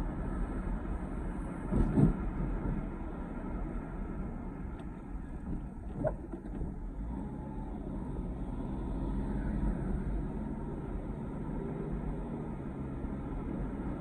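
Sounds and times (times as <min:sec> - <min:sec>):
car engine rumble: 0:00.0 - 0:14.0
tyres on the road: 0:00.0 - 0:14.0.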